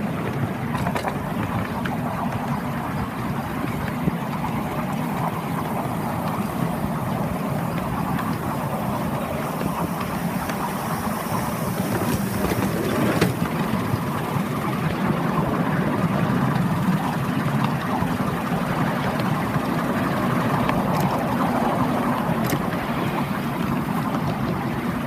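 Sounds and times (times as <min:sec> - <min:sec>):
miniature train rumbling on track: 0:00.0 - 0:25.0.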